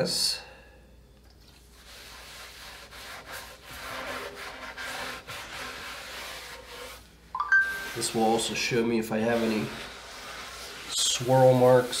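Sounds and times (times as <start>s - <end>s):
cloth rubbing on wood: 1.7s - 12.0s.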